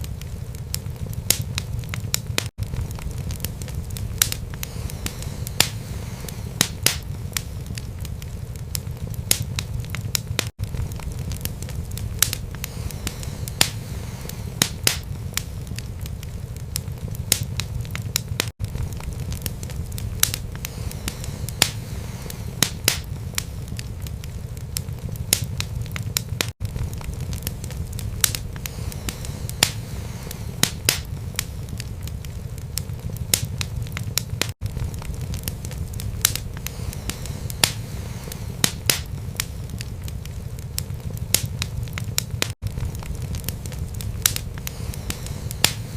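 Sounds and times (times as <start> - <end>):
low rumble of flames: 0.0 - 45.9
wood crackling and popping: 0.0 - 45.9.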